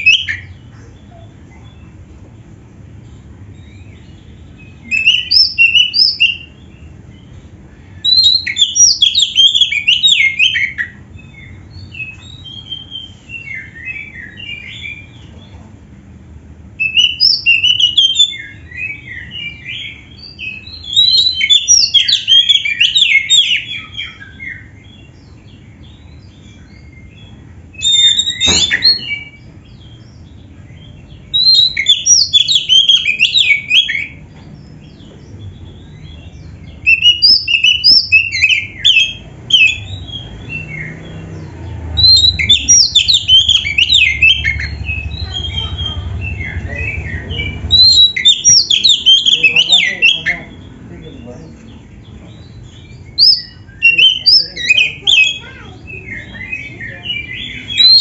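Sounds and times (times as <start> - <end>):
bird warbling song: 0.0 - 15.7, 16.8 - 58.0
steady low hum: 0.0 - 58.0.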